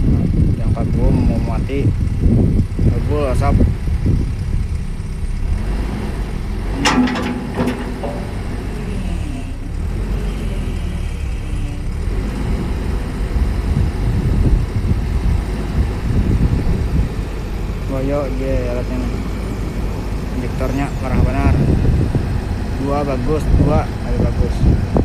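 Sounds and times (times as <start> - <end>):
engine idling with misfire: 0.0 - 25.0.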